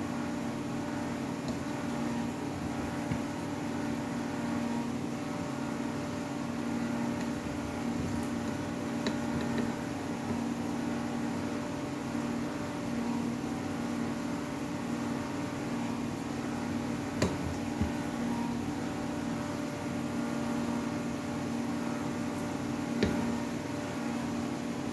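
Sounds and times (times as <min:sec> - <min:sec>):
low mechanical hum: 0:00.0 - 0:24.9.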